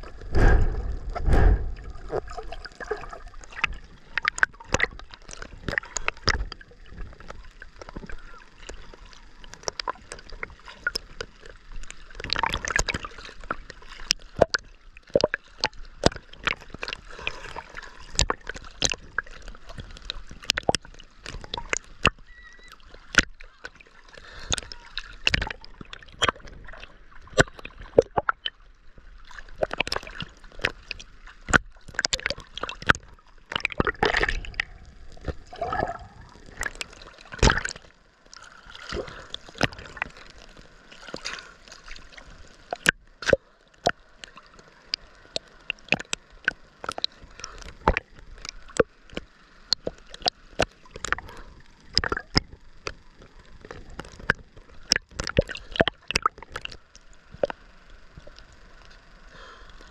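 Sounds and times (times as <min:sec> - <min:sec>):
sea water sloshing and lapping: 0:00.0 - 0:59.9.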